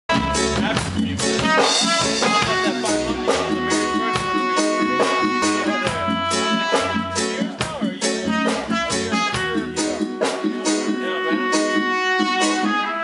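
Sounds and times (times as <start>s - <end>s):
reggae band playing: 0.1s - 13.0s.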